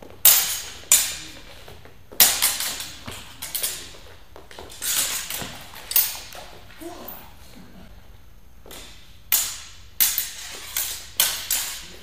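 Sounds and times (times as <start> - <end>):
training swords clashing: 0.0 - 7.4, 8.7 - 12.0.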